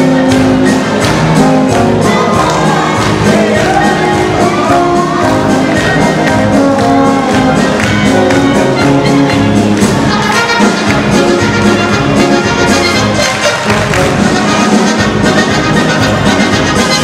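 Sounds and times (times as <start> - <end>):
oompah brass band music: 0.0 - 17.0.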